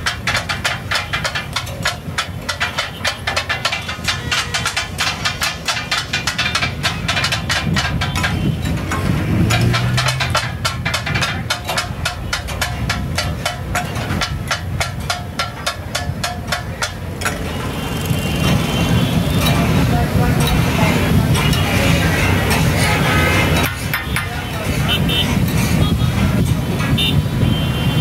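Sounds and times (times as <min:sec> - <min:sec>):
metal spatulas striking iron griddle: 0:00.0 - 0:17.8, 0:19.3 - 0:27.0.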